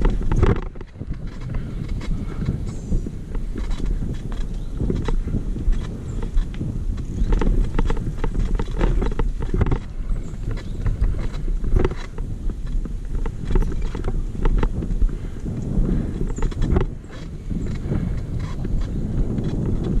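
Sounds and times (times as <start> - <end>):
mountain bike rattling: 0.0 - 20.0
wind on microphone: 0.0 - 20.0.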